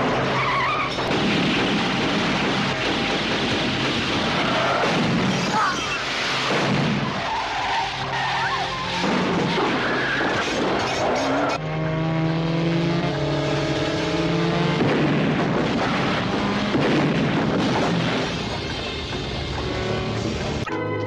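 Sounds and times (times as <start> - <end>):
tyres skidding: 0.0 - 20.7
car engine noise: 0.0 - 21.0.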